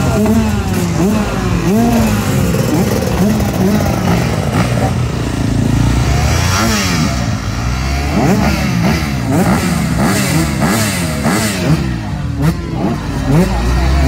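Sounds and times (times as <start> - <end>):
drone of other motorcycles: 0.0 - 14.0
motorcycle engine revving in blips: 0.0 - 14.0.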